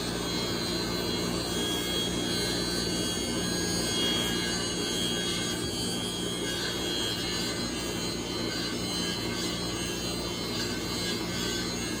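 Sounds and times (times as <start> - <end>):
saw cutting timber: 0.0 - 12.0.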